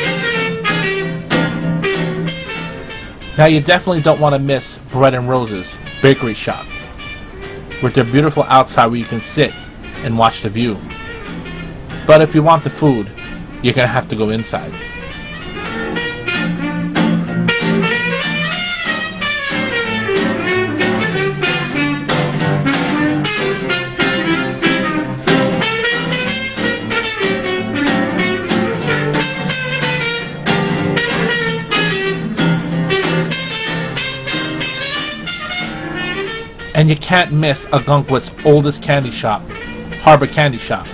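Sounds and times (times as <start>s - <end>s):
jazz background music: 0.0s - 40.9s.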